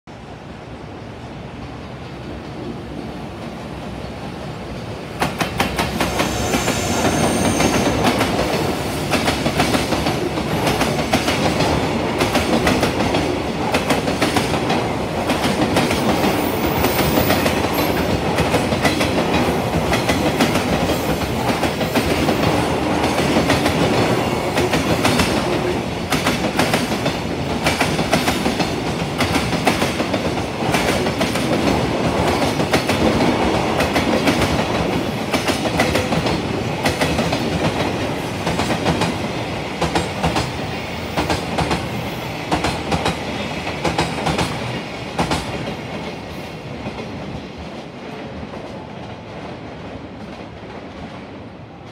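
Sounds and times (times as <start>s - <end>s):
train rolling rumble: 0.2s - 51.9s.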